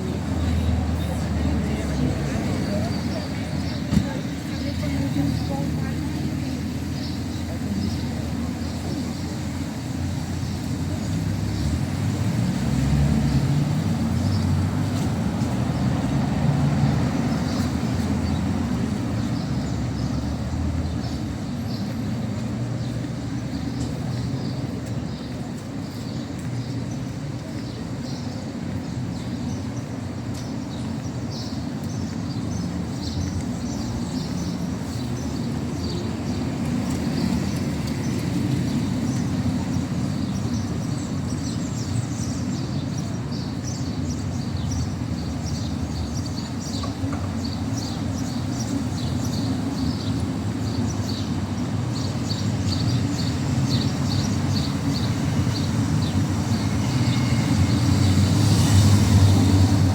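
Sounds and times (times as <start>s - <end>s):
low traffic rumble: 0.0s - 59.9s.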